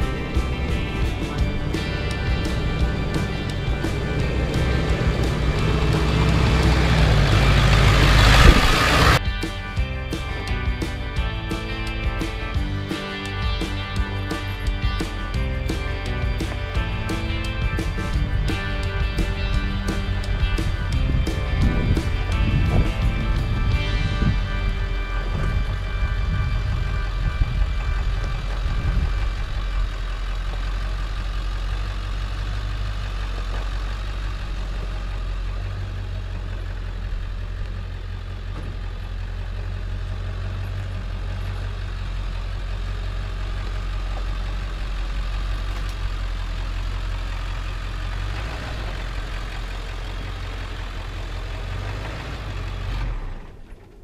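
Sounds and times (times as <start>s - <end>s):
pickup truck engine running: 0.0s - 54.0s.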